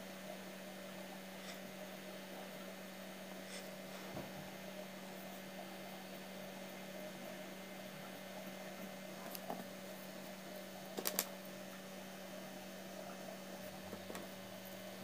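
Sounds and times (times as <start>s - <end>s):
constant hiss: 0.0s - 15.0s
electrical hum: 0.0s - 15.0s.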